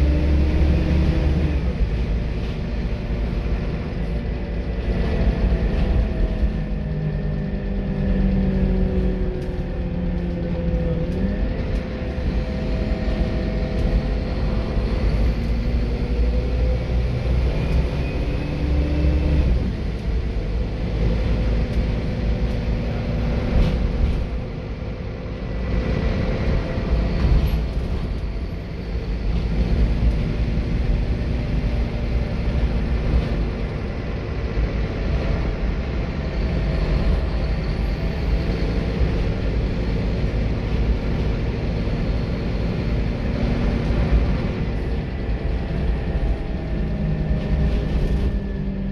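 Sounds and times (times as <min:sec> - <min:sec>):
bus engine running: 0:00.0 - 0:48.9.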